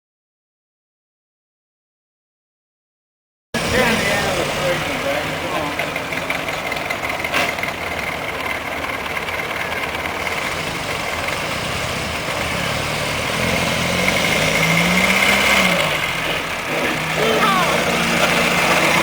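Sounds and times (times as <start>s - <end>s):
car engine running: 3.6s - 19.0s.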